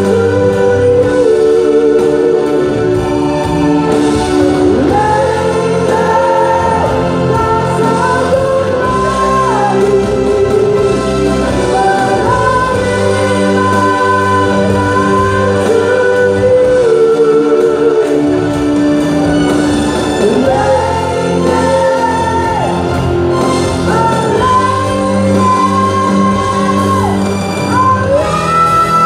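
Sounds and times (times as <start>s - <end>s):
electric guitar: 0.0s - 29.0s.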